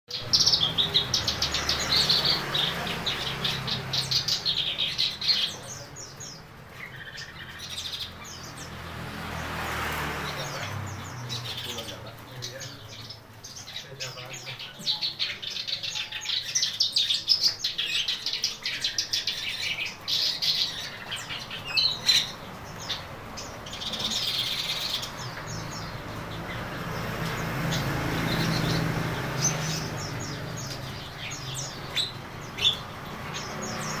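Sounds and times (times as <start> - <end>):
warbler singing: 0.0 - 34.0.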